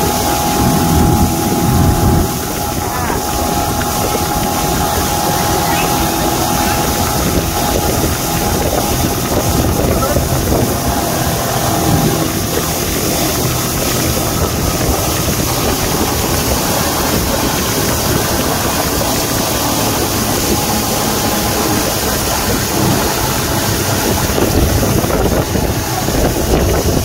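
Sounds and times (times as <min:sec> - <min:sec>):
motorboat engine running: 0:00.0 - 0:27.0
water churning in wake: 0:00.0 - 0:27.0
wind buffeting microphone: 0:00.0 - 0:27.0.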